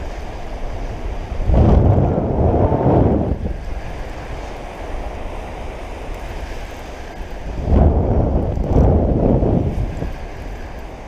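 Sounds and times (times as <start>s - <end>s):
ocean surf washing onto beach: 0.0s - 11.0s
wind rumbling on microphone: 0.0s - 11.0s.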